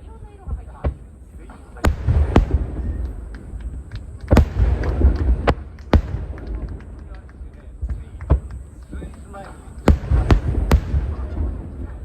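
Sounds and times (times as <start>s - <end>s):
firework bangs: 0.0s - 12.0s
low rumbling echo: 0.0s - 12.0s.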